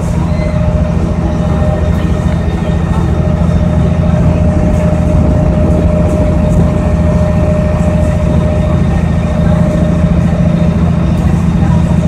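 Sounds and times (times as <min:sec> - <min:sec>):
boat engine drone: 0:00.0 - 0:12.0
thin steady whine: 0:00.0 - 0:12.0.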